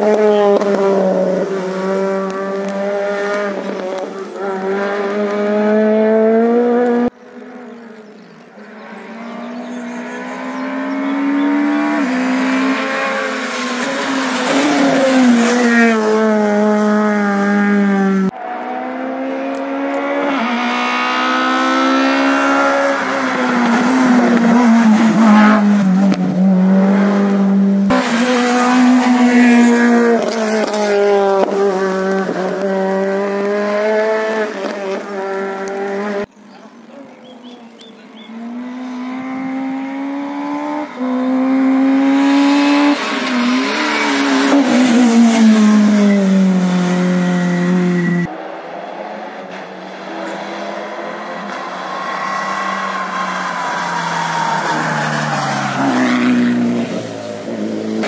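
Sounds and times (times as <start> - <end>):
rally cars passing at speed: 0.0 - 58.0.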